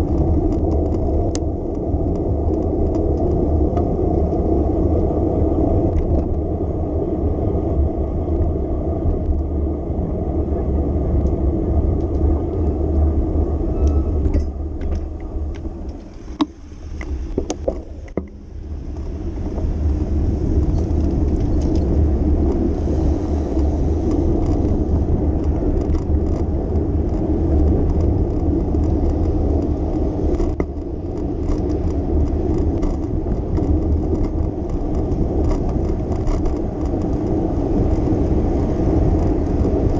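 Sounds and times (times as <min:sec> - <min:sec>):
road and traffic rumble: 0:00.0 - 0:39.9.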